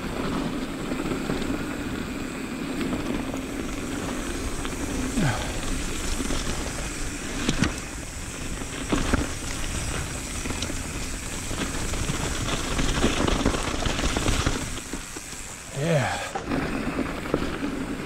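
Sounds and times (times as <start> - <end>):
bike rattling over rough ground: 0.0 - 18.0
bike tyres rolling: 0.0 - 18.0.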